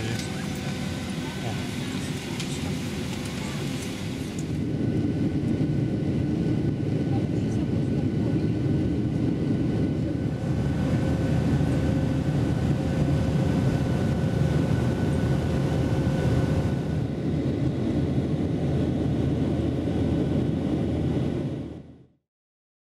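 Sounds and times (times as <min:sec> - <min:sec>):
jet engines roaring in cabin: 0:00.0 - 0:22.1.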